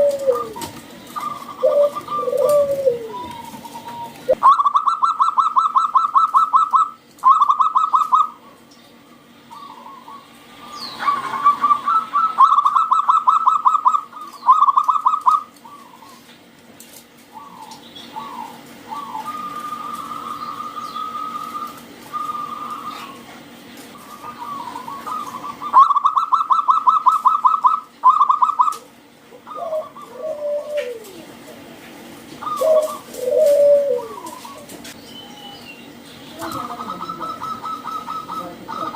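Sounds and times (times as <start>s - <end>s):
dove trilled cooing: 0.0s - 16.3s, 17.3s - 31.7s, 32.3s - 38.9s.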